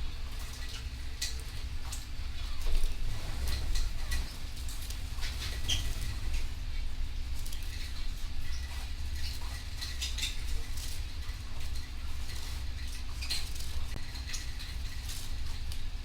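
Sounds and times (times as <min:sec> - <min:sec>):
canaries chirping: 0:00.3 - 0:15.5.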